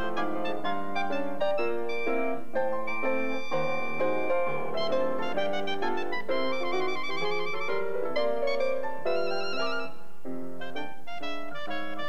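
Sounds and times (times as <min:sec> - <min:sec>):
accompanying instruments: 0:00.0 - 0:09.9
clarinet melody: 0:00.0 - 0:12.0.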